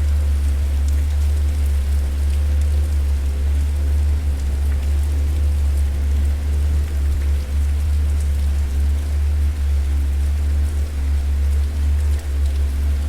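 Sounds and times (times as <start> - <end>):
low rumble of fire: 0.0 - 13.0.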